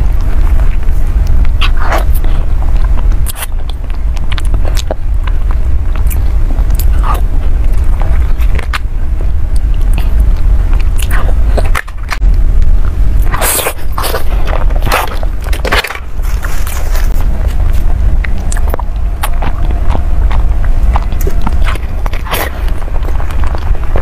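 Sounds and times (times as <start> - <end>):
steady low rumble: 0.0 - 24.0
wet chewing and mouth clicks: 0.0 - 24.0.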